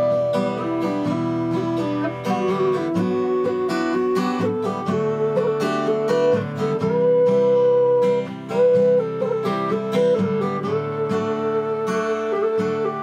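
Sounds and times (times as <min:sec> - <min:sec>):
acoustic guitar: 0:00.0 - 0:13.0
whistle playing folk melody: 0:00.0 - 0:13.0.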